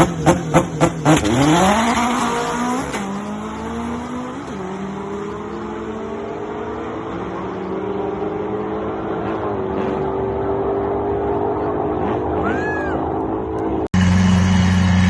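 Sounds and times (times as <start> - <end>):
car engine accelerating through gears: 0.0 - 15.0.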